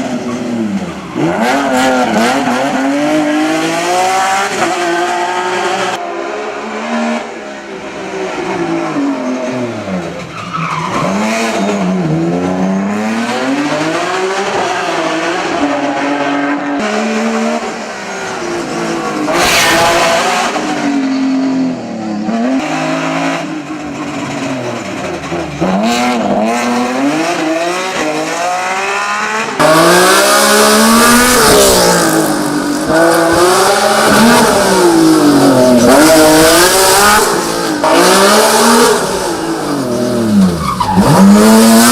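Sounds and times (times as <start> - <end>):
race car engine revving: 0.3 - 41.9.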